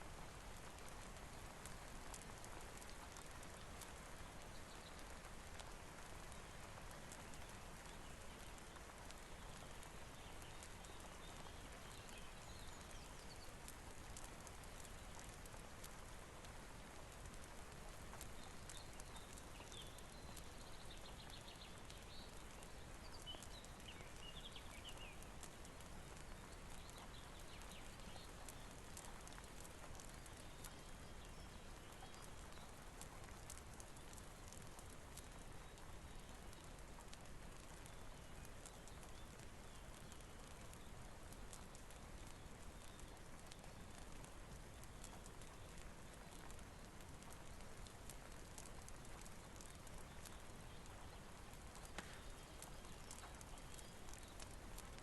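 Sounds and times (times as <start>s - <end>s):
soft steady rain: 0.0s - 55.0s.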